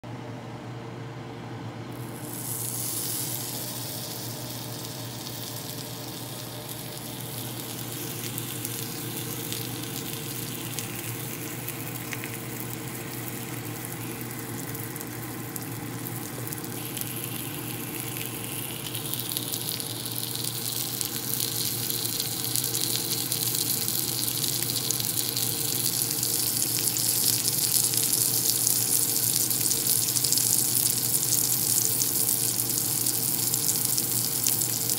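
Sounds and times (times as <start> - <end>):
steady low hum: 0.0 - 34.9
bacon sizzling in frying pan: 1.9 - 34.9.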